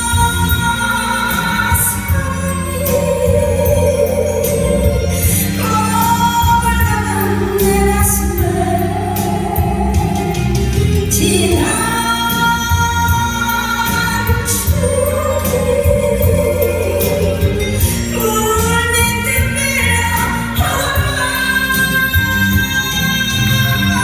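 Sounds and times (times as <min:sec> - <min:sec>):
band backing with steady bass: 0:00.0 - 0:24.0
woman singing a slow ballad: 0:00.0 - 0:24.0.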